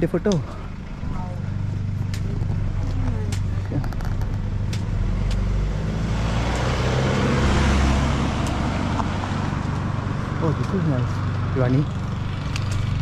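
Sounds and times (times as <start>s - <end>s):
vehicle passing close by: 1.0s - 13.0s.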